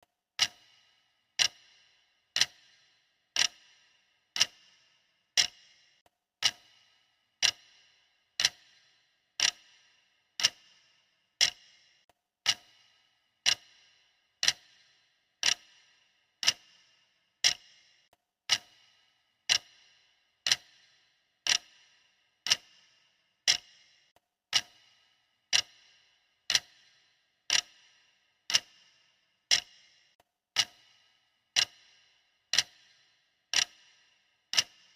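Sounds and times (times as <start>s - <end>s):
clock ticking: 0.4s - 34.9s.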